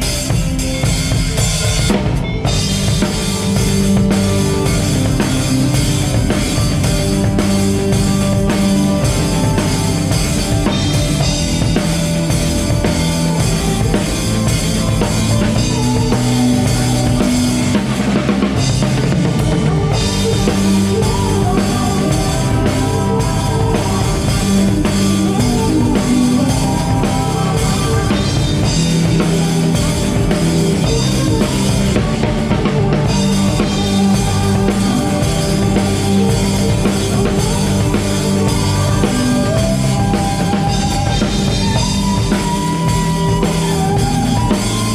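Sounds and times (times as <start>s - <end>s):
drum kit beat: 0.0s - 44.9s
live band playing: 0.0s - 44.9s.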